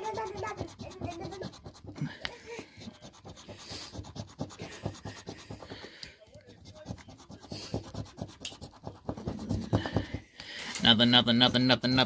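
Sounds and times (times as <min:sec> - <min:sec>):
scratch card being scraped: 0:00.0 - 0:10.2.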